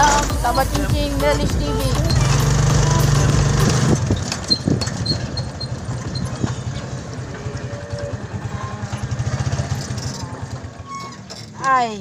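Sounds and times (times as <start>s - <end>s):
motorcycle engine running slowly: 0.0s - 11.0s.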